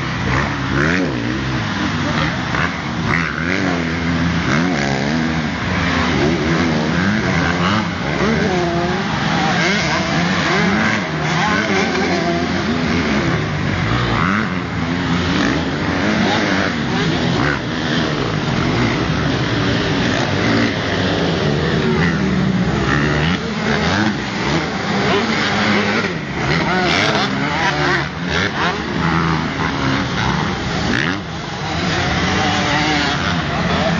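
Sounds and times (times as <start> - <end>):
motocross bike engines revving: 0.0 - 33.9.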